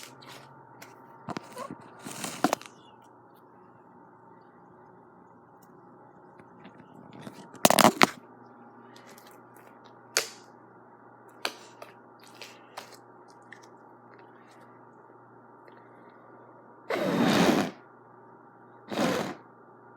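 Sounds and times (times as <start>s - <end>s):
low background hum: 0.0s - 19.9s.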